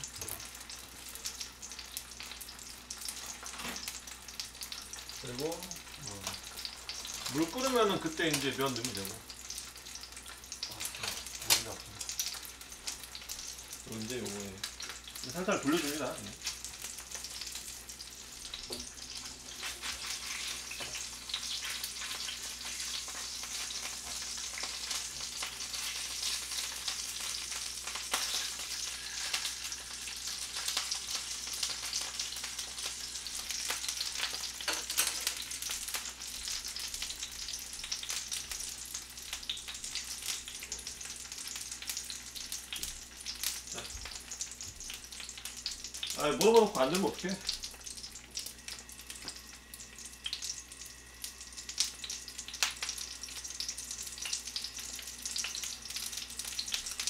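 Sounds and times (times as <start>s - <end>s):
dumplings sizzling in oil: 0.0s - 57.0s.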